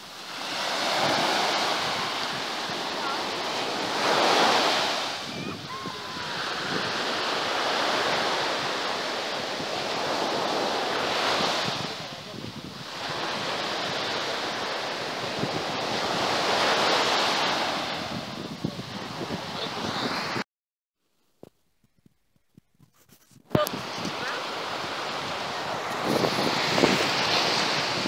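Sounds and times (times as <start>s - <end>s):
waves breaking on shore: 0.0s - 20.4s, 23.5s - 28.0s
wind buffeting microphone: 0.8s - 20.4s, 21.9s - 28.0s.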